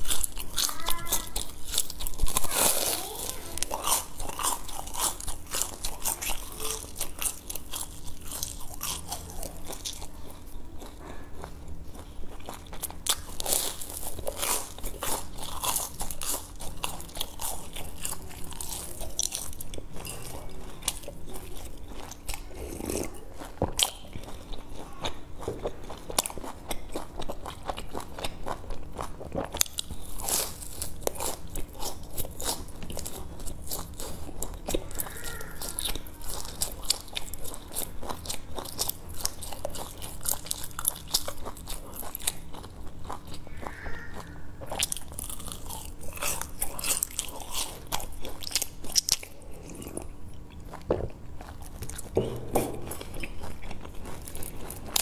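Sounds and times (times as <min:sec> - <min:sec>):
crunching and chewing fried food: 0:00.0 - 0:55.0.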